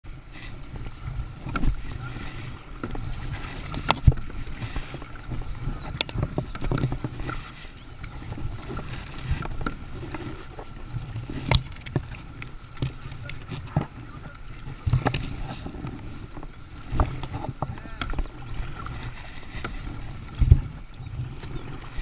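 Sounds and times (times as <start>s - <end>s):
water splashing against boat: 0.0s - 22.0s
wind on microphone: 0.0s - 22.0s
paddle knocking on hull: 0.8s - 22.0s.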